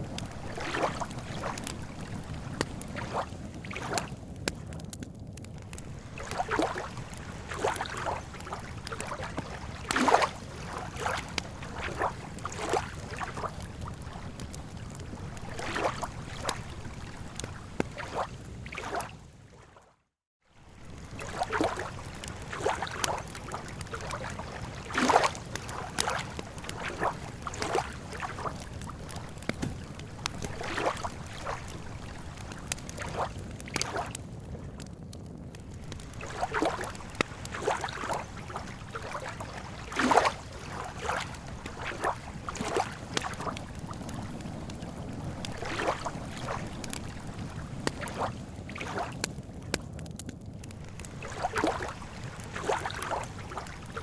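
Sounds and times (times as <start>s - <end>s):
lake water lapping: 0.0s - 4.2s, 5.7s - 19.9s, 20.6s - 34.2s, 35.6s - 49.3s, 50.8s - 54.0s
campfire crackling: 0.0s - 19.1s, 20.6s - 54.0s.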